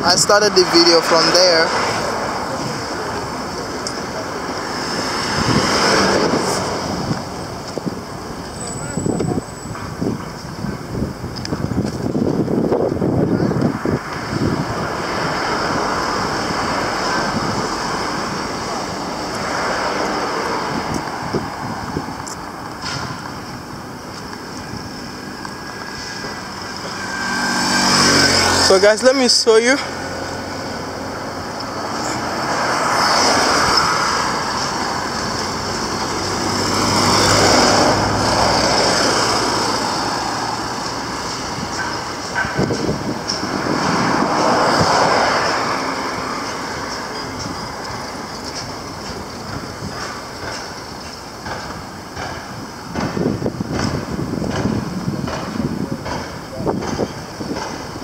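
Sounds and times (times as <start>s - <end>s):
wind buffeting microphone: 0.0s - 28.7s, 29.9s - 58.0s
rushing road traffic: 0.0s - 58.0s
vehicles passing close by: 0.0s - 58.0s.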